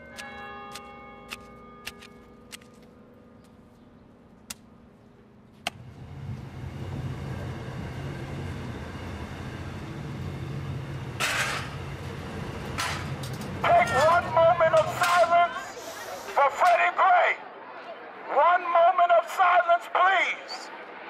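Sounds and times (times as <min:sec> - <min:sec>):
passenger train running: 0:00.0 - 0:21.0.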